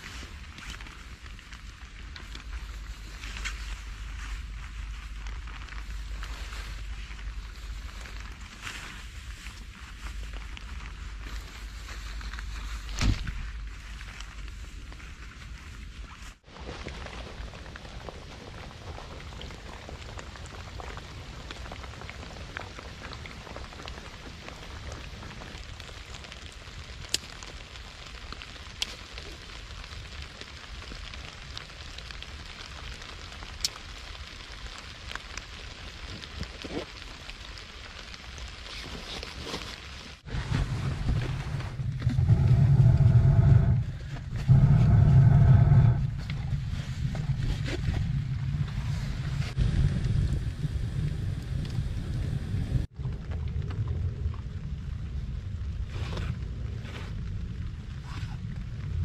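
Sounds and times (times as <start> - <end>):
low rumble with humming tone: 0.0 - 31.5, 40.2 - 59.0
steady rain: 0.0 - 59.0.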